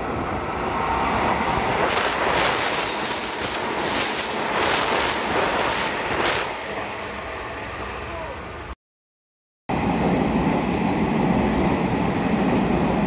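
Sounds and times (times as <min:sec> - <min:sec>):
train wheels rushing on rails: 0:00.0 - 0:08.7, 0:09.7 - 0:13.0.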